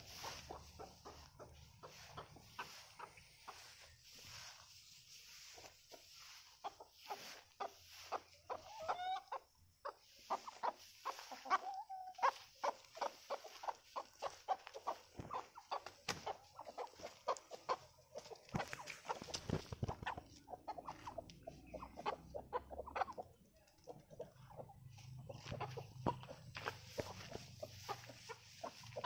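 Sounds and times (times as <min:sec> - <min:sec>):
chickens clucking: 0:00.0 - 0:29.0
drawn-out chicken call: 0:00.0 - 0:29.0.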